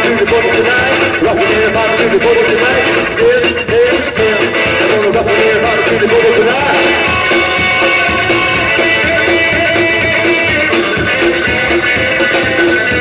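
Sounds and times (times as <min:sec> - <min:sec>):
electric guitar lead: 0:00.0 - 0:13.0
rockabilly band playing live: 0:00.0 - 0:13.0.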